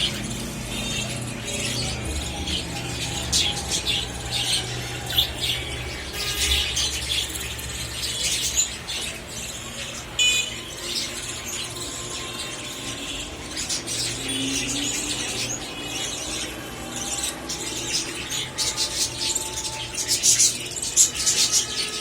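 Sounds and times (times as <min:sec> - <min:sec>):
baby birds begging calls: 0:00.0 - 0:22.0.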